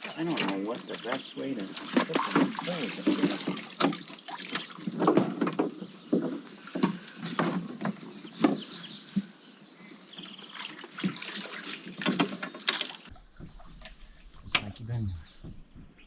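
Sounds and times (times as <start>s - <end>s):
water sloshing against hull: 0.0s - 16.0s
gear knocking in a canoe: 1.7s - 16.0s.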